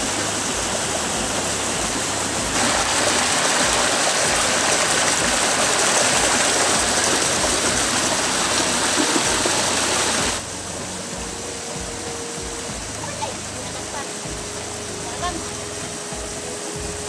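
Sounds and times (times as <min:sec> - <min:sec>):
rocky stream rushing: 0:00.0 - 0:17.0.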